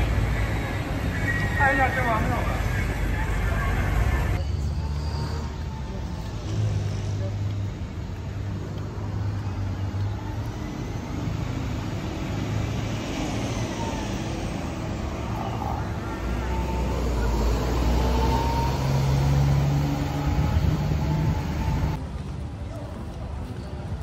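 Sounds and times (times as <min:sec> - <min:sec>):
bus engine humming: 0:00.0 - 0:22.3
cars going by: 0:00.0 - 0:22.6.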